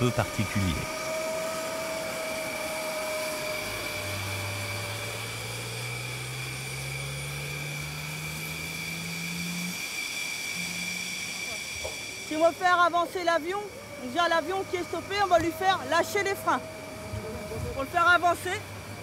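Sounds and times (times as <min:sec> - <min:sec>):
high jet engine whine: 0:00.0 - 0:19.0
jet engines rushing: 0:00.0 - 0:19.0
low hum rising in pitch: 0:00.0 - 0:19.0.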